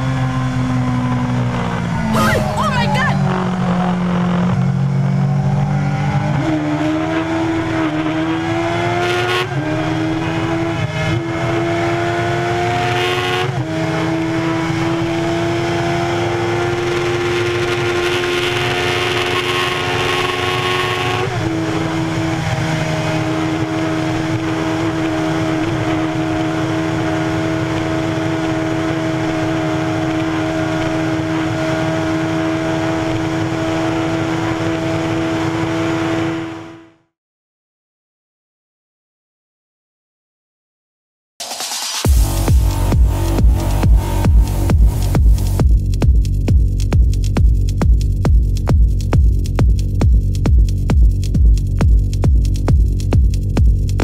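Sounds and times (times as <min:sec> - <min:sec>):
motorcycle engine at high revs: 0:03.2 - 0:36.8, 0:42.0 - 0:54.0.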